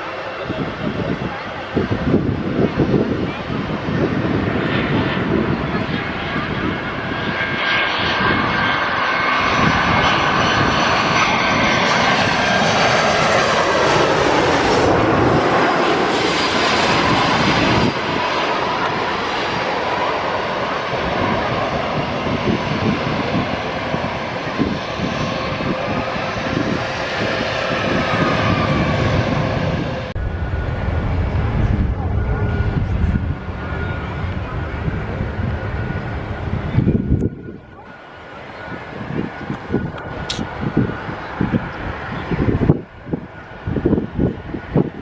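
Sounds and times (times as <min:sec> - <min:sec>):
airliner engines passing overhead: 0:00.0 - 0:45.0
steady aircraft engine noise: 0:00.0 - 0:45.0.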